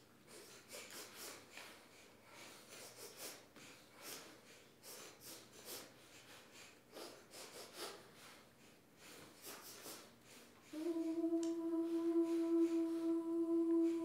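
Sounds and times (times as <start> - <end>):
choir singers sniffling: 0.2 - 14.0.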